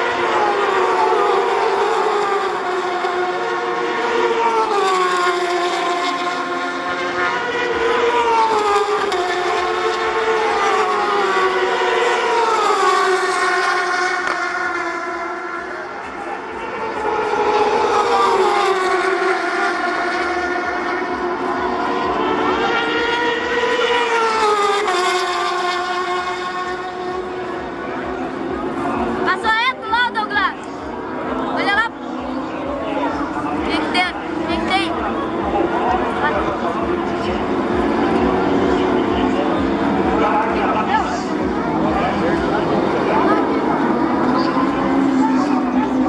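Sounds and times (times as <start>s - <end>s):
superbike engine at high revs: 0.0s - 46.0s.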